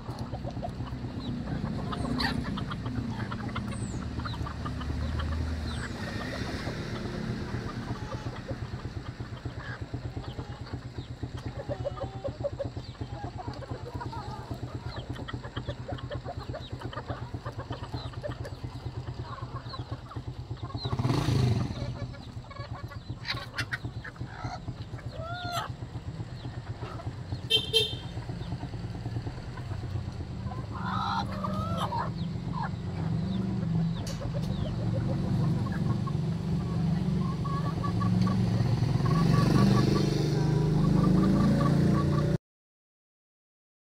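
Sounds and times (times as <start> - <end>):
chickens clucking: 0.0 - 42.4
engine droning: 0.0 - 42.4.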